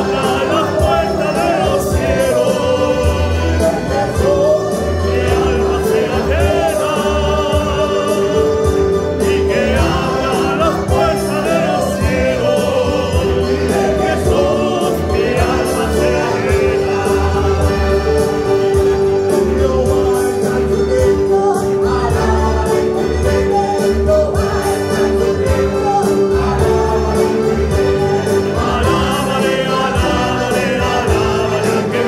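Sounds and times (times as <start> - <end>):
band accompaniment with bass: 0.0 - 32.0
church choir singing: 0.0 - 32.0.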